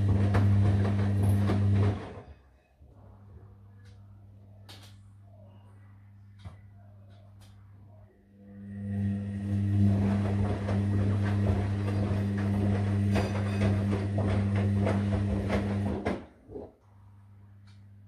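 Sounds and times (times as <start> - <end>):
washing machine hum: 0.0 - 18.0.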